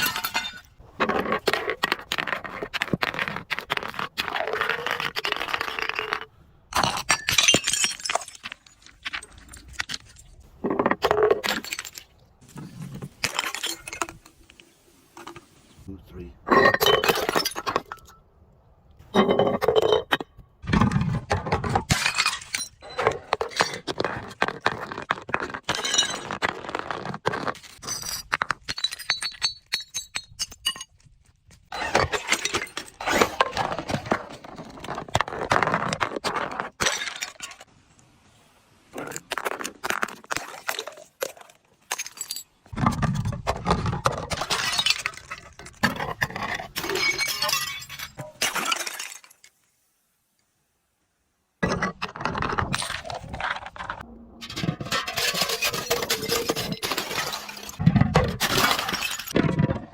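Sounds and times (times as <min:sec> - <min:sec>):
glass bottles breaking and crunching: 0:00.0 - 0:02.4, 0:04.3 - 0:14.3, 0:16.4 - 0:18.2, 0:19.1 - 0:37.7, 0:39.0 - 0:49.6, 0:51.6 - 0:59.9.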